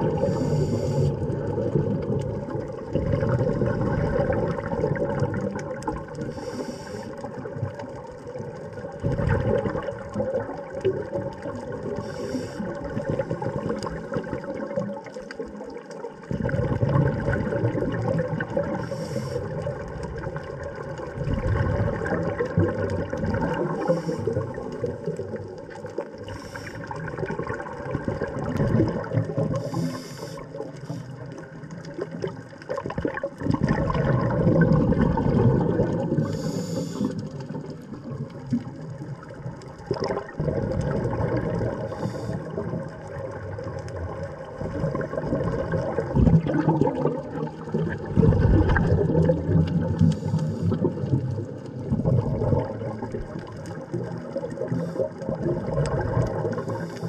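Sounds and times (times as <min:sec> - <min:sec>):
water sloshing and gurgling: 0:00.0 - 0:57.0.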